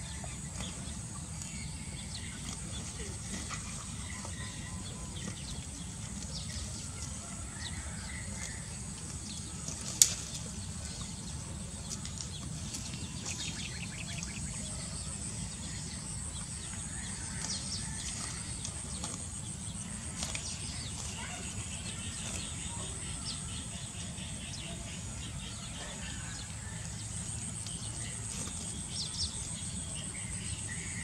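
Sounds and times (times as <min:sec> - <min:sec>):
constant low rumble: 0:00.0 - 0:31.0.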